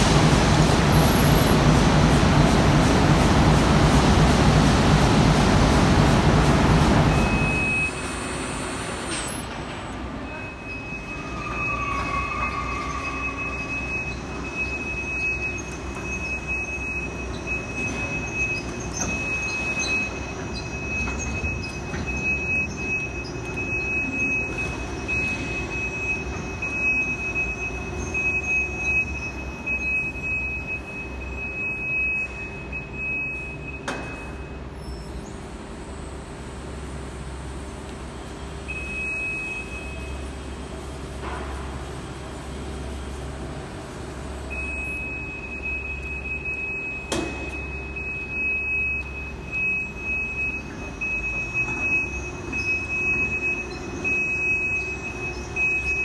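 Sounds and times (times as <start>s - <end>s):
machinery rumble and hum: 0.0s - 56.0s.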